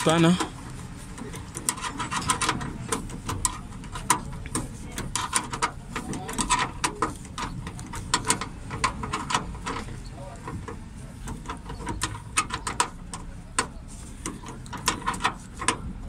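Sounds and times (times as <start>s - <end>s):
spanner clicking on bolt: 0.0s - 16.0s.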